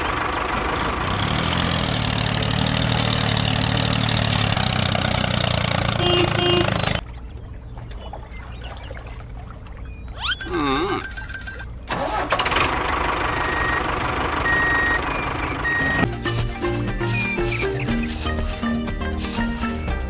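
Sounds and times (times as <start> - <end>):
engine humming: 0.0 - 8.6, 9.2 - 20.0.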